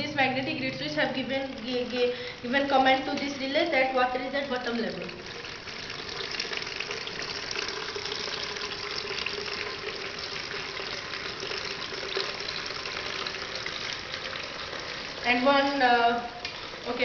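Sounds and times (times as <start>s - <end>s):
faint pump hum: 0.0s - 17.0s
water splashing into plastic tank: 1.2s - 15.3s.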